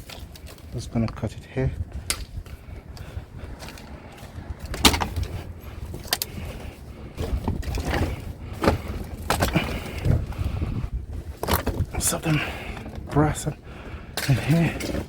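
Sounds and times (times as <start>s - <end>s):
scrap rustling: 1.9s - 15.0s.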